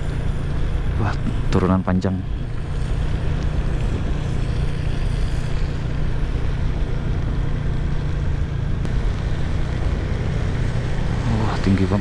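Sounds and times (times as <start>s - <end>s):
scooter engine and tyre rumble: 0.0s - 12.0s.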